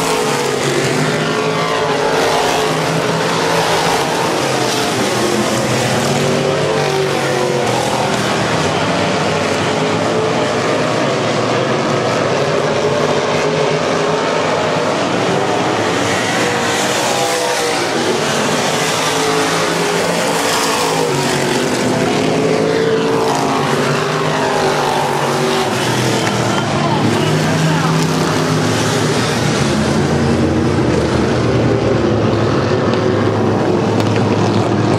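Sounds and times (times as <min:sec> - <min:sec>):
race car engines running hard: 0:00.0 - 0:34.9.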